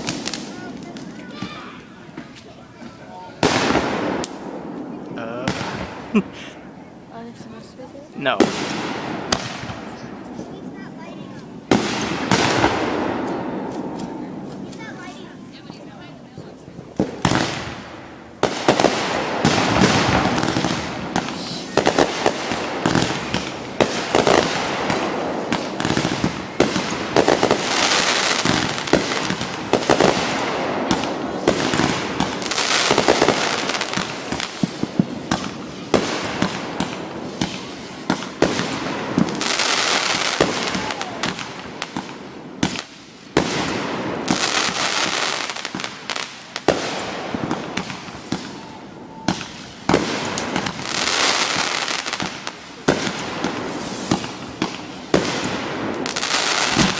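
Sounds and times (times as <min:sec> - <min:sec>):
fireworks bangs: 0:00.0 - 0:56.9
fireworks crackling: 0:00.0 - 0:56.9.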